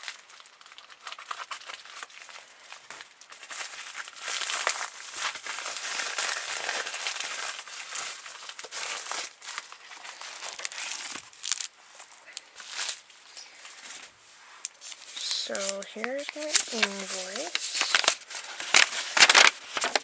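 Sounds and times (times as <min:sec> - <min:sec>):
padded envelope crinkling: 0:00.0 - 0:20.0.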